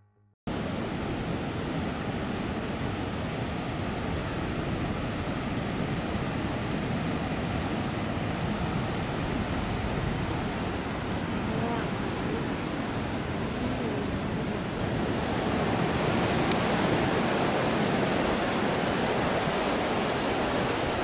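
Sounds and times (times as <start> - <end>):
ocean waves breaking on beach: 0.5 - 21.0.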